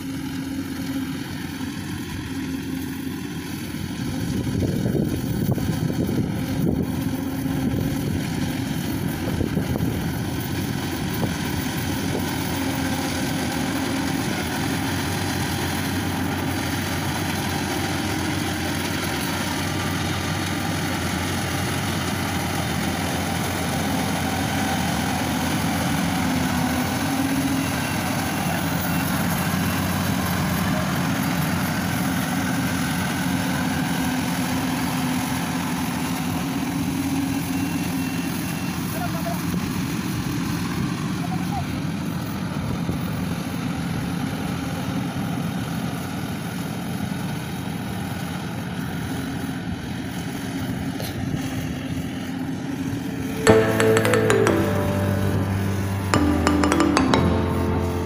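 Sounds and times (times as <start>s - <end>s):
combine harvester mechanical drone: 0.0s - 53.4s.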